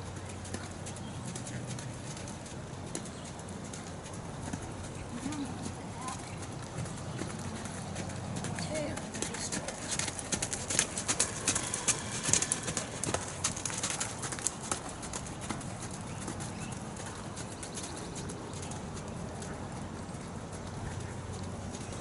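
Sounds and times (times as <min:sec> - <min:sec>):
horse trotting on sand: 0:00.0 - 0:22.0.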